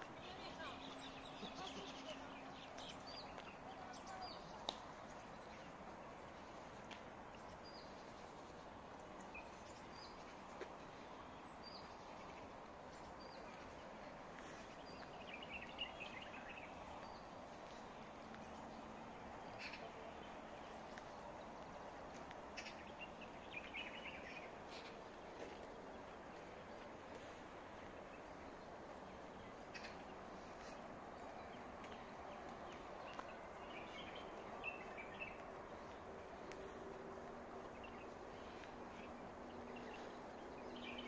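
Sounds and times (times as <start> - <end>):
background hum: 0.0 - 41.0
small birds chirping: 0.0 - 41.0
birds twittering: 0.2 - 8.5, 9.1 - 36.8, 37.6 - 41.0.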